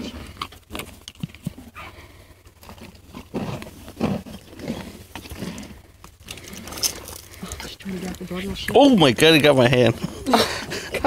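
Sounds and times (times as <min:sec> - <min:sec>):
horse chewing crunchy treats: 0:00.0 - 0:11.0.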